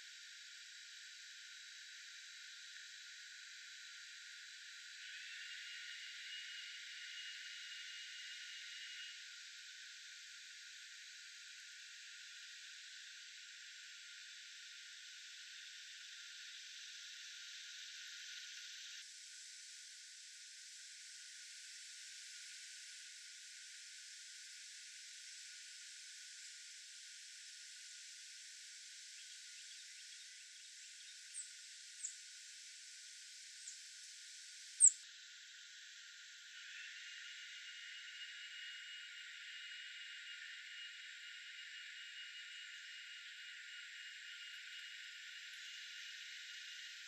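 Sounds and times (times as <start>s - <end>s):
high-pitched outdoor hiss: 0.0s - 47.0s.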